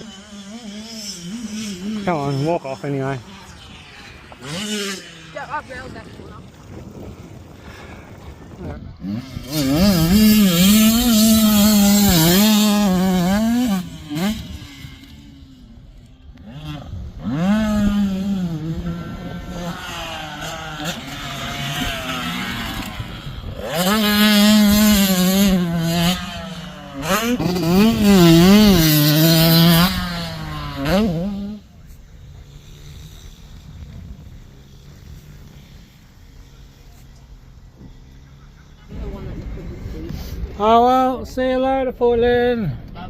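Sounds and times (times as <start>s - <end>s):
dirt bike engine revving: 0.0s - 42.2s.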